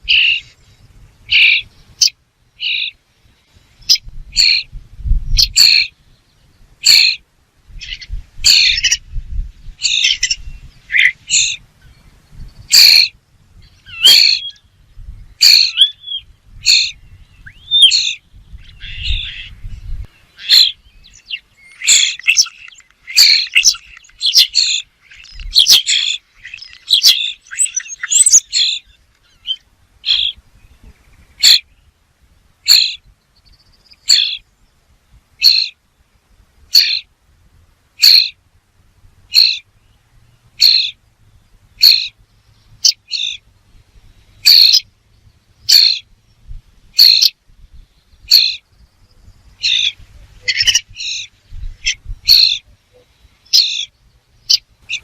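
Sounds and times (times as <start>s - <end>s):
bird calling with sharp high calls: 0.0s - 31.9s, 32.6s - 34.6s, 35.4s - 35.9s, 36.7s - 37.1s, 38.0s - 38.4s, 39.3s - 55.0s.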